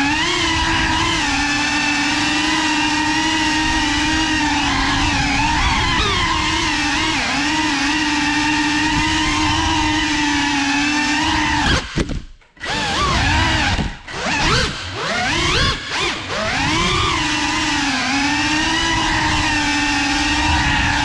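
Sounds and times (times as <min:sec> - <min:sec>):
drone motors and propellers whining: 0:00.0 - 0:21.0.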